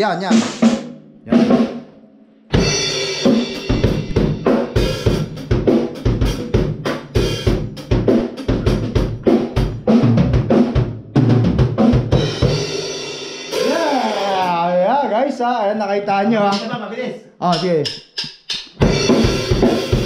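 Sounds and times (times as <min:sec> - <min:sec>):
drum kit groove: 0:00.0 - 0:01.9, 0:02.5 - 0:14.8, 0:16.1 - 0:20.0.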